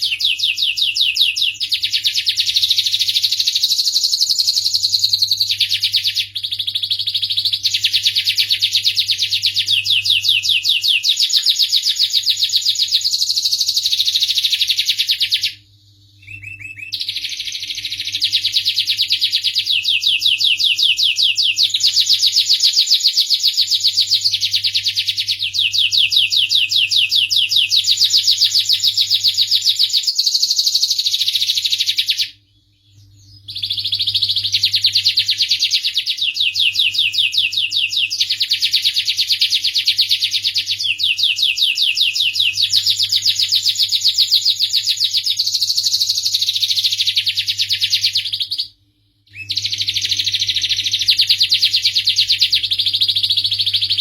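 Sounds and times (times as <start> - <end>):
canary singing rolling trills: 0.0 - 54.0.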